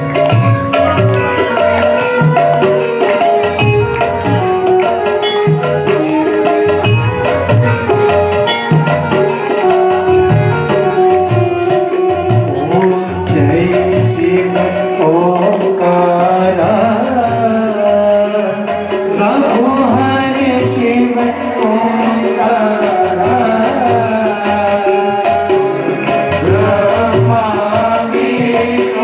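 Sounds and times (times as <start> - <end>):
person singing: 0.0 - 29.0
tabla strokes: 0.0 - 29.0.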